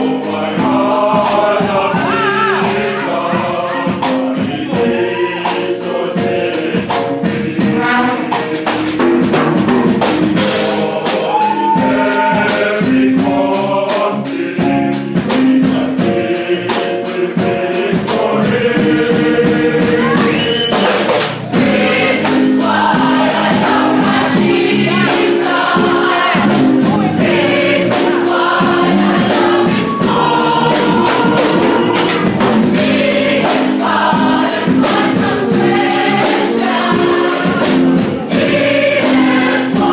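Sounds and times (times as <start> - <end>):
choir singing a worship song: 0.0 - 39.9
instrumental accompaniment with beat: 0.0 - 39.9.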